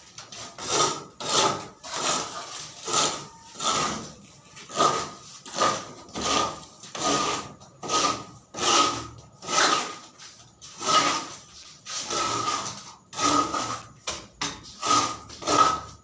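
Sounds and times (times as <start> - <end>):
hand saw rasping strokes: 0.2 - 13.9, 14.6 - 16.0.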